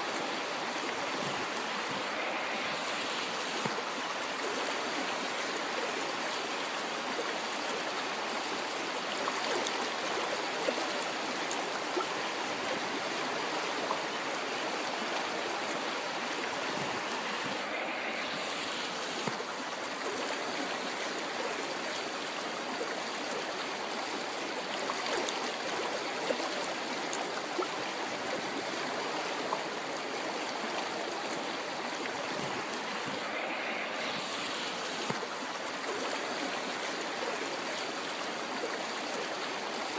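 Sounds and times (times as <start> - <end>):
river water rushing: 0.0 - 39.9
water splashes: 0.0 - 39.9.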